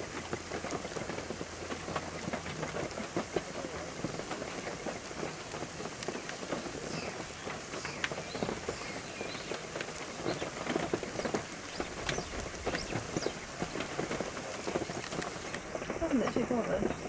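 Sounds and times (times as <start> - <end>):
drops pattering: 0.0 - 17.0
rain falling: 0.0 - 17.0.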